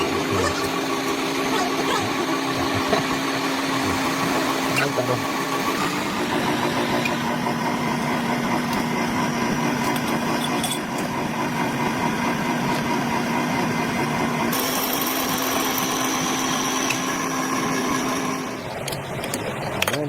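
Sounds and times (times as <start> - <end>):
metal lathe humming: 0.0 - 19.8.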